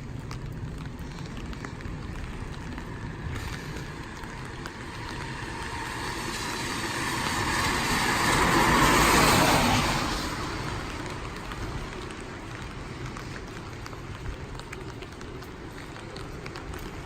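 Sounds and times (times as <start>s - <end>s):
car tyres hissing on wet street: 0.0s - 17.0s
steady rain: 0.0s - 17.0s.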